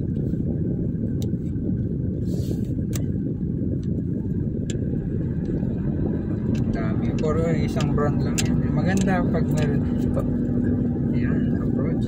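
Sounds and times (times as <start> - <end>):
engine and tyres rumbling: 0.0 - 12.0.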